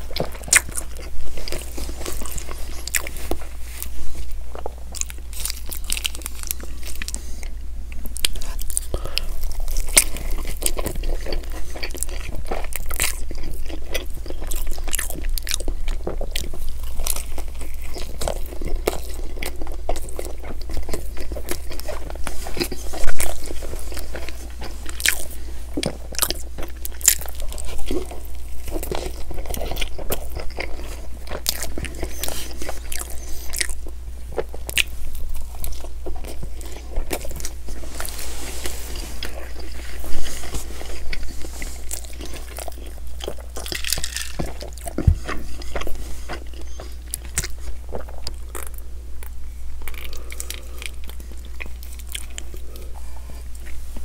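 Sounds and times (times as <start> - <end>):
close-miked chewing: 0.0 - 54.0.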